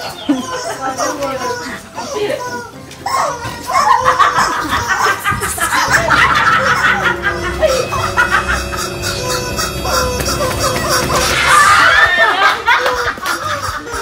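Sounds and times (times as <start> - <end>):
background music: 0.0 - 14.0
people laughing and giggling: 0.0 - 14.0.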